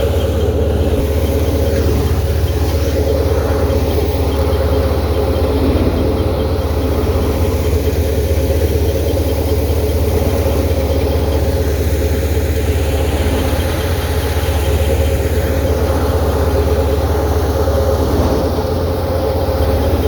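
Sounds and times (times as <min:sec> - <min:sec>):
thresher running: 0:00.0 - 0:20.0
tractor engine running: 0:00.0 - 0:20.0.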